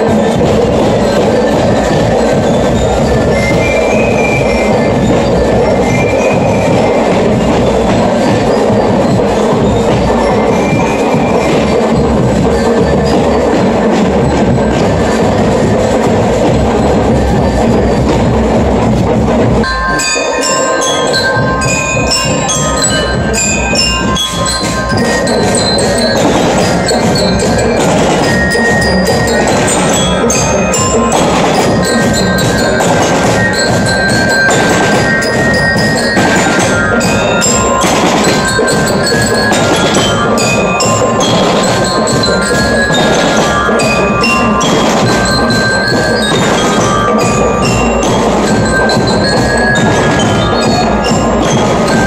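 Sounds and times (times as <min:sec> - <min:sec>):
snare and bass drums: 0:00.0 - 0:19.7, 0:21.1 - 0:52.0
bell lyre melody: 0:00.0 - 0:52.0.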